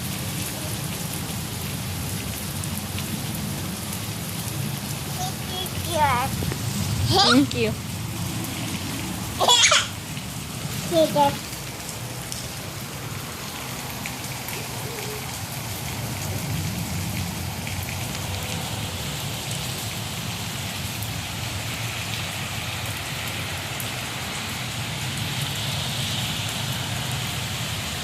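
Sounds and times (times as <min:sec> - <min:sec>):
rain pattering on surfaces: 0:00.0 - 0:28.0.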